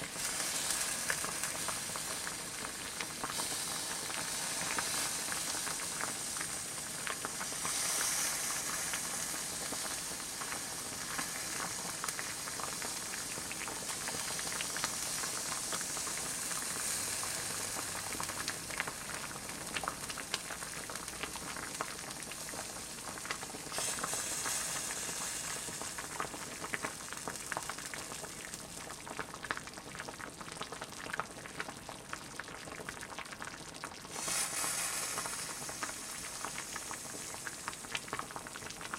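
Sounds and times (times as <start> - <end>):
stew boiling with popping bubbles: 0.0 - 38.9.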